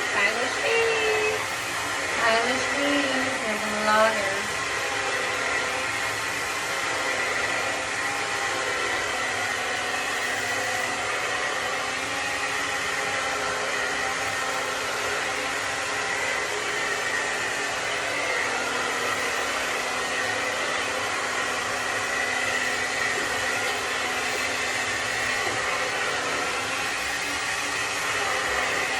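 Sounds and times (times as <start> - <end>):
hair dryer blowing: 0.0 - 28.9.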